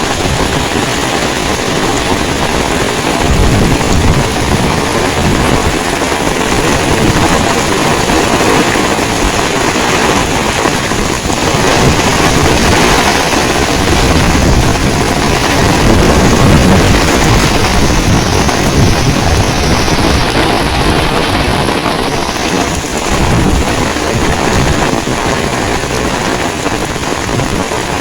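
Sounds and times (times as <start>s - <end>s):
heavy rain pouring: 0.0s - 28.0s
wind buffeting microphone: 0.0s - 28.0s.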